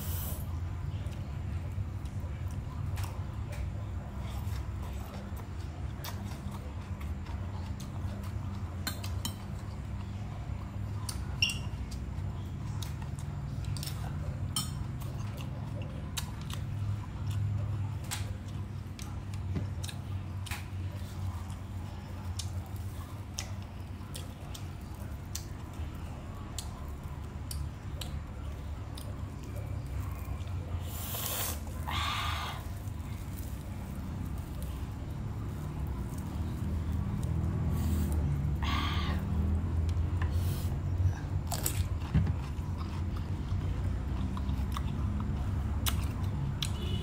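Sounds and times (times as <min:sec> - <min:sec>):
chewing: 0:00.9 - 0:46.9.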